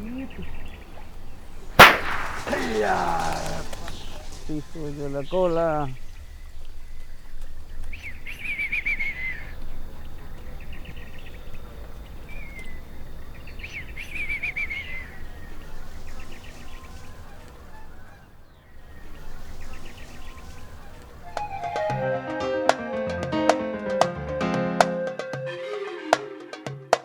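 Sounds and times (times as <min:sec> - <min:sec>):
birds chattering calls: 0:00.0 - 0:22.0
faint bird chirps: 0:00.0 - 0:22.0.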